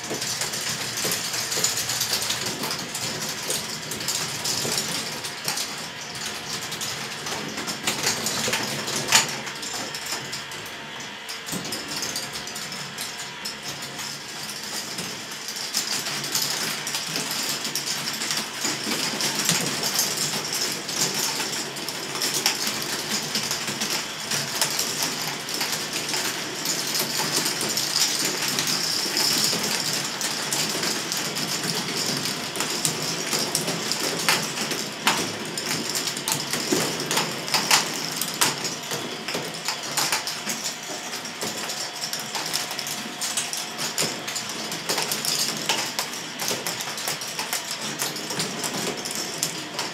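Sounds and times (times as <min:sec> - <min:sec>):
plastic balls rattling along tracks: 0:00.0 - 0:49.9.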